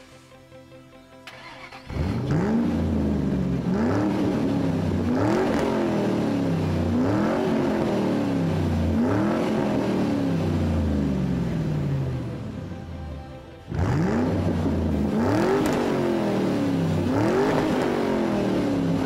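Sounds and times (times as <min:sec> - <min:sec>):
car engine revving: 0:01.3 - 0:19.0.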